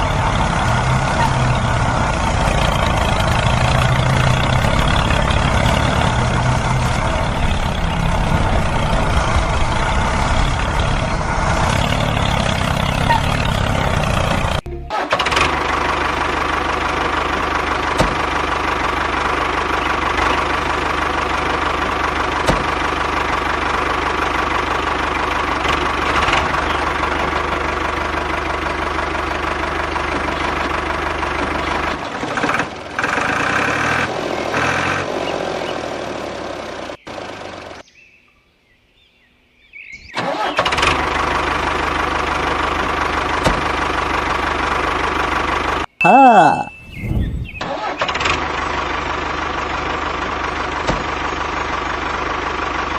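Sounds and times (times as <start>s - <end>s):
small engine running: 0.0s - 37.8s, 40.2s - 45.9s, 47.7s - 52.9s.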